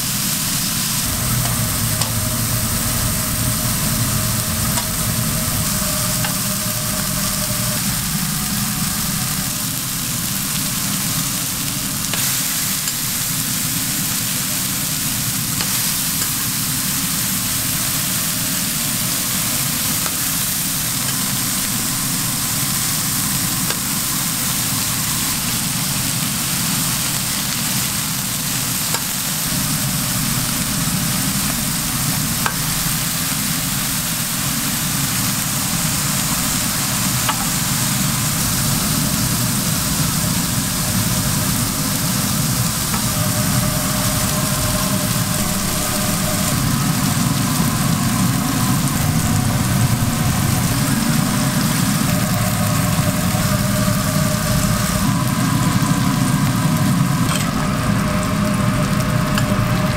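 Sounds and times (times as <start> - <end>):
low hum: 0.0 - 59.9
meat and onions sizzling on griddle: 0.0 - 59.9.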